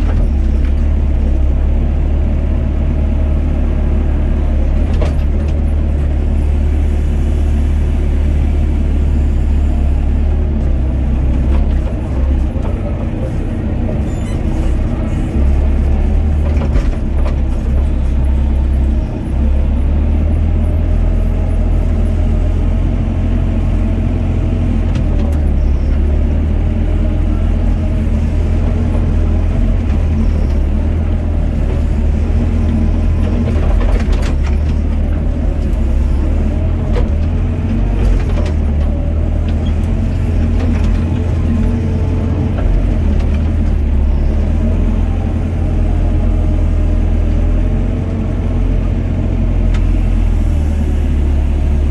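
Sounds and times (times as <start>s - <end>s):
excavator diesel engine under load: 0.0s - 51.9s.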